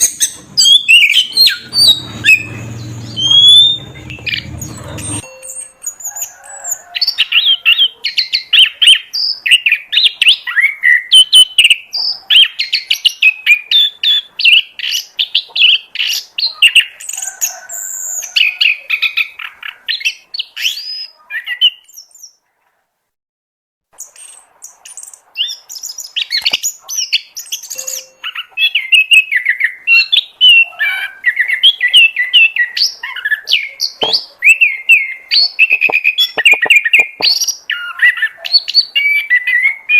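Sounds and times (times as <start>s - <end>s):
songbird whistling and chirping: 0.0s - 17.2s, 17.8s - 22.3s, 24.0s - 39.9s.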